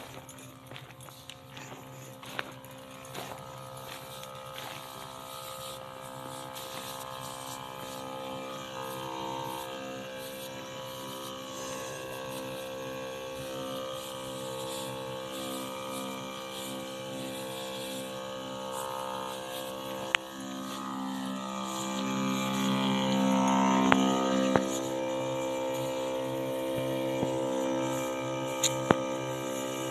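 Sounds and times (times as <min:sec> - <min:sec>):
electric pump motor buzzing: 0:00.0 - 0:29.9.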